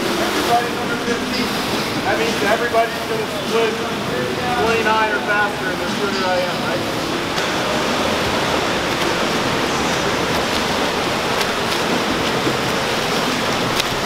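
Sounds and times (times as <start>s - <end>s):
small water splashes: 0.0s - 14.0s
swimmers splashing: 0.0s - 14.0s.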